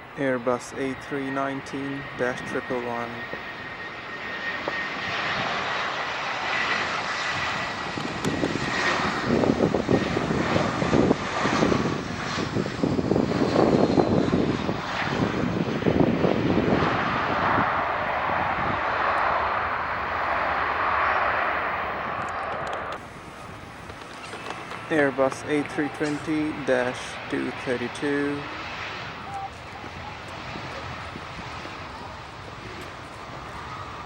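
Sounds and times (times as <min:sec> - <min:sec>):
airliner engine whine: 0:00.0 - 0:34.0.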